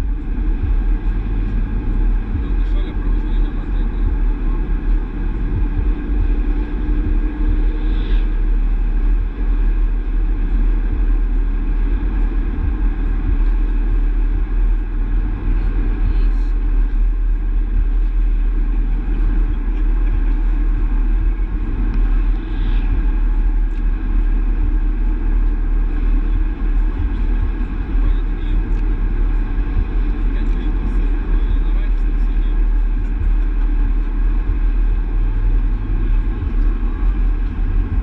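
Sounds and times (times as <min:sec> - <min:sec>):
car tyres and engine rumble: 0:00.0 - 0:38.0.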